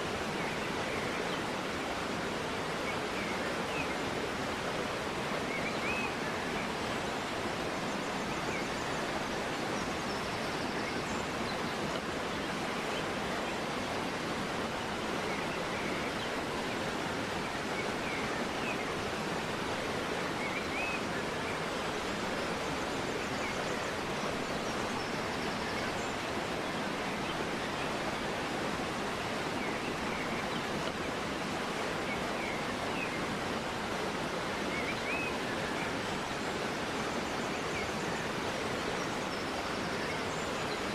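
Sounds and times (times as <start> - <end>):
flowing river rushing: 0.0 - 40.9.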